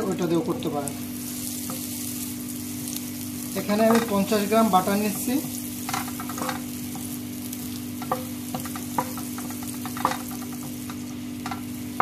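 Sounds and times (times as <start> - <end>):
butter sizzling in pot: 0.0 - 12.0
steady low hum: 0.0 - 12.0.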